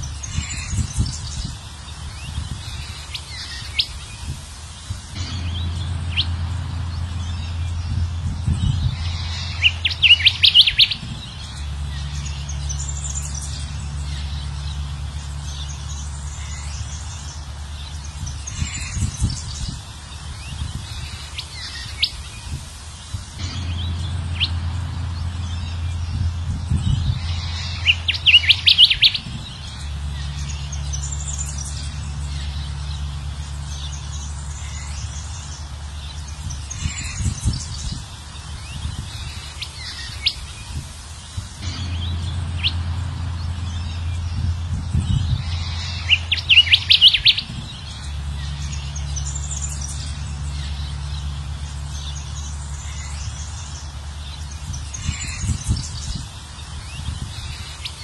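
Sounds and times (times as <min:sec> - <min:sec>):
bird chirps and trills: 0:00.0 - 0:58.0
steady low hum: 0:00.0 - 0:58.0.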